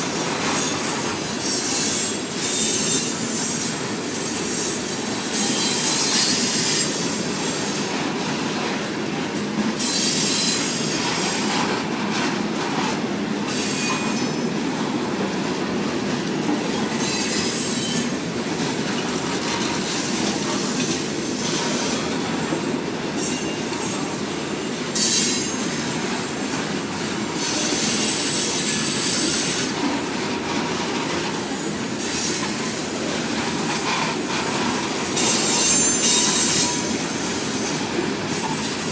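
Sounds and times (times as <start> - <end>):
train wheel squeal: 0.0 - 8.5, 9.7 - 14.7, 15.9 - 38.9
freight train cars rumbling: 0.0 - 38.9.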